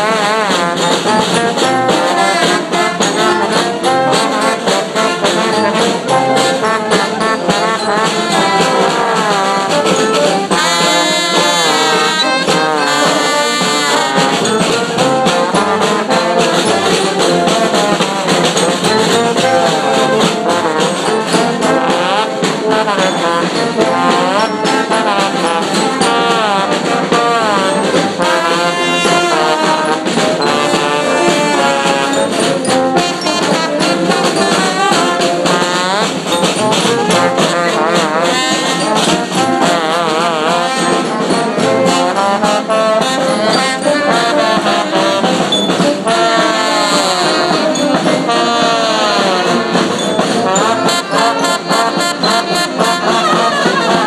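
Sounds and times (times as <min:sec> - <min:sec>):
brass band playing: 0:00.0 - 0:54.0
steady drum beats: 0:00.0 - 0:54.0.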